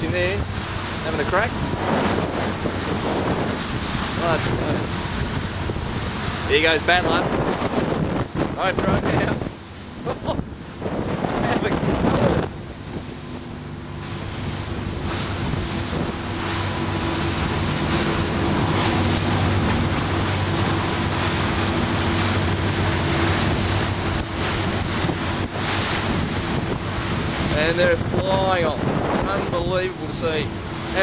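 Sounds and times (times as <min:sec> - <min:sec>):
powerboat engines humming: 0:00.0 - 0:31.0
water rushing: 0:00.0 - 0:31.0
wind buffeting microphone: 0:00.0 - 0:31.0.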